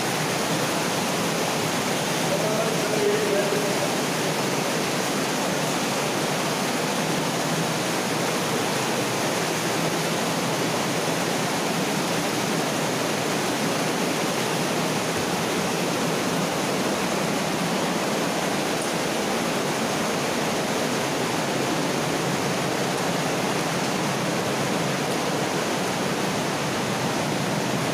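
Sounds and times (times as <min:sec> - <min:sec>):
water rushing through culvert: 0:00.0 - 0:27.9.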